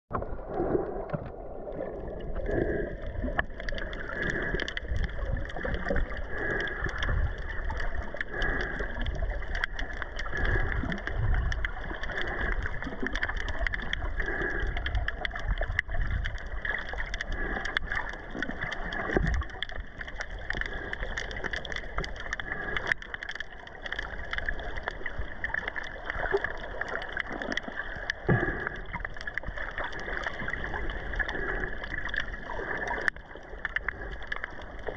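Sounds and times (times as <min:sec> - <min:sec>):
crackle of clicks: 0:00.1 - 0:34.9
low rumbles of moving water: 0:00.1 - 0:34.9
underwater water noise: 0:00.1 - 0:34.9.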